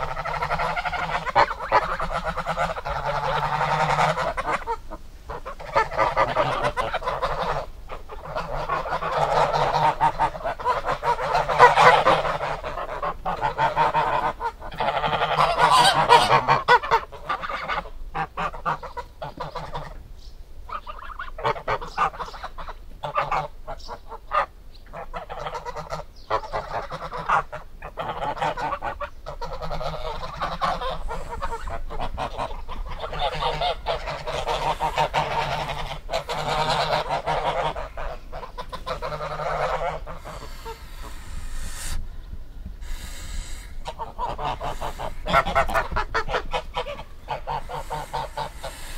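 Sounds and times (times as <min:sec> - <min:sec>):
geese honking: 0:00.0 - 0:20.0, 0:20.7 - 0:48.9.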